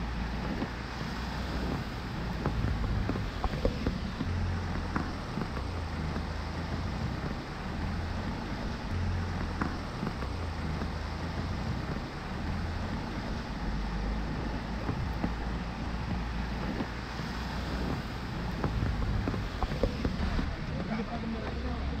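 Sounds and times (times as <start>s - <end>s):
raindrop ticks: 0.0s - 22.0s
river rushing: 0.0s - 22.0s
steady rain: 0.0s - 22.0s.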